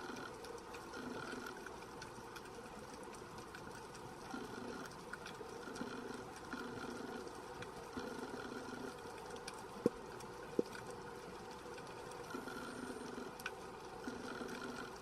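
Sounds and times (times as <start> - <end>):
faint crackling clicks: 0.0 - 15.0
low underwater hum: 0.0 - 15.0.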